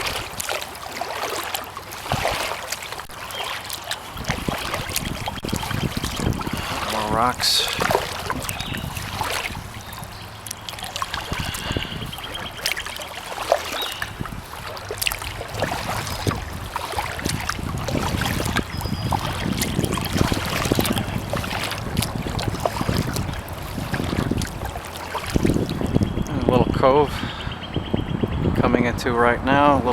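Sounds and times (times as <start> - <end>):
wind rumble on microphone: 0.0 - 0.7, 1.8 - 3.2, 4.0 - 29.9
paddle splashing in water: 0.0 - 26.3
water trickling off paddle: 0.0 - 26.6.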